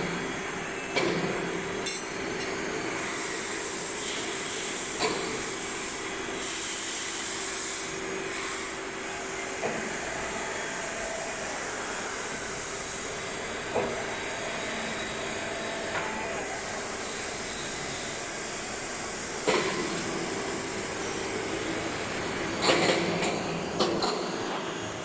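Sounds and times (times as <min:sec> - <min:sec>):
hydraulic power unit humming: 0:00.0 - 0:23.9.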